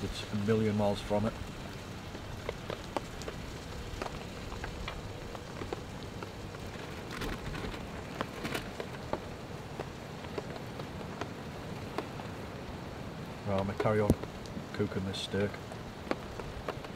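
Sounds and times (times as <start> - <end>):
small pops and crackles: 1.0 - 16.9.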